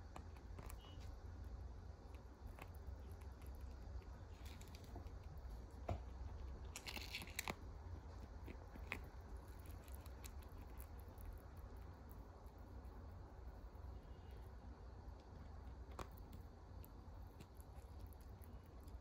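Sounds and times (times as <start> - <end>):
low steady hum: 0.0 - 19.0
rabbit licking and nibbling: 0.0 - 19.0.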